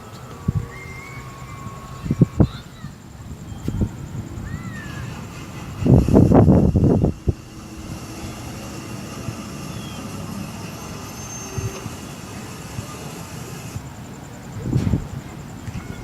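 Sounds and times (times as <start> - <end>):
low outdoor rumble: 0.0 - 16.0
wind buffeting microphone: 0.0 - 16.0.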